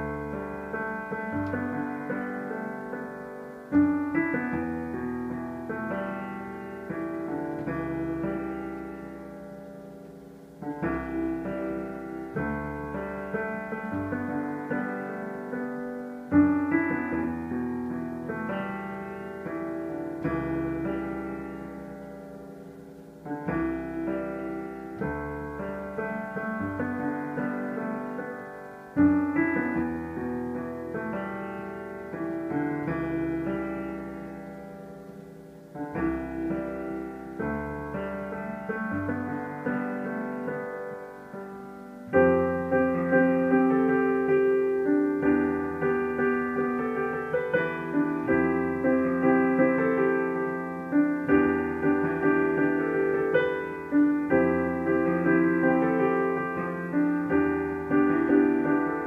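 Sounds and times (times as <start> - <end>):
solo piano melody with chords: 0.0 - 59.0.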